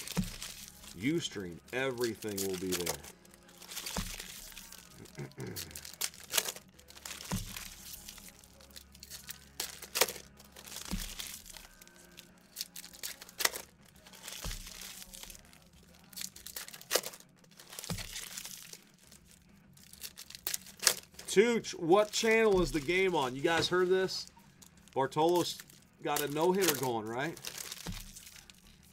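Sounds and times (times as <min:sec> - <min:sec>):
wrapper ripping: 0:00.0 - 0:28.9.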